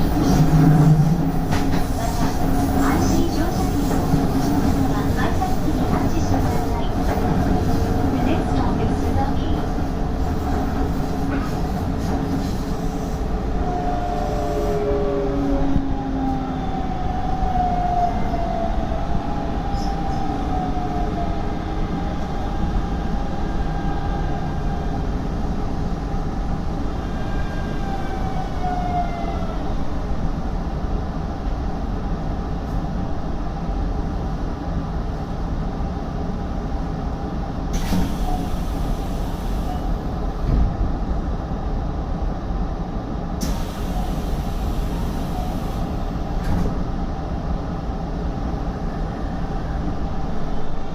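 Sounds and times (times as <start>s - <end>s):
train wheel and rail noise: 0.0s - 50.9s.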